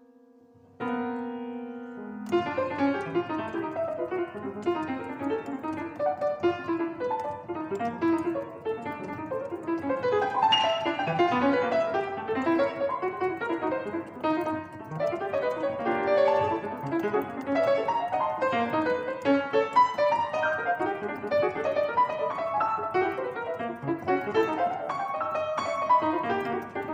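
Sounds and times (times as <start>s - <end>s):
solo piano playing quick notes: 0.0s - 26.9s.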